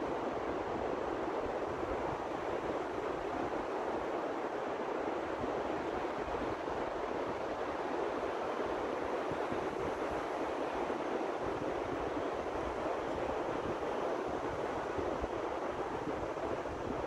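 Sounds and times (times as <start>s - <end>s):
beach surf: 0.0s - 17.0s.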